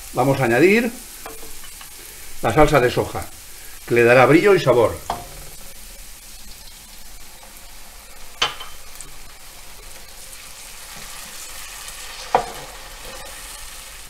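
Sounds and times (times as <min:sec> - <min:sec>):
vegetables sizzling in a frying pan: 0:00.0 - 0:14.0.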